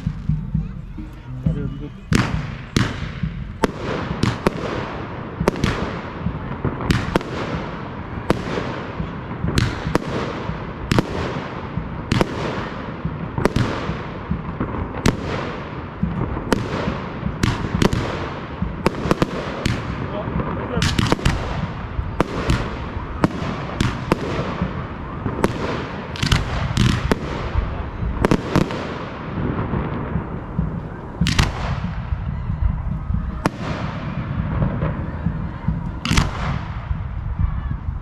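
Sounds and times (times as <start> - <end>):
fireworks crackling: 0.0 - 38.0.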